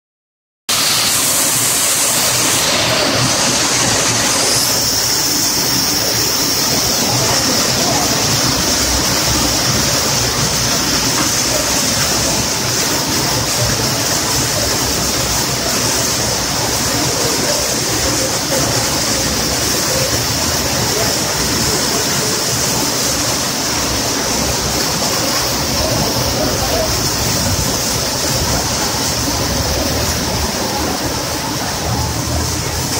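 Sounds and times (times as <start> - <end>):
hail and heavy rain pelting: 0.7 - 32.9.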